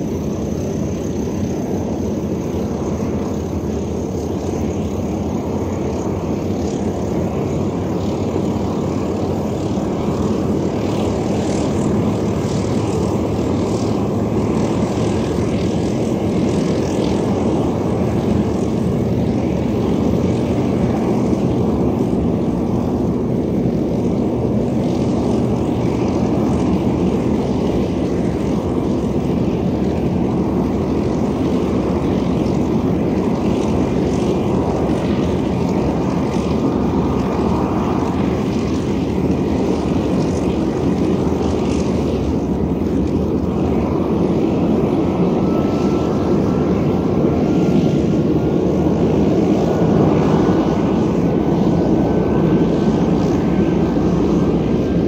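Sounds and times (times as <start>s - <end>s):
faint steady whine: 0.0s - 55.0s
propeller engines running: 0.0s - 55.0s.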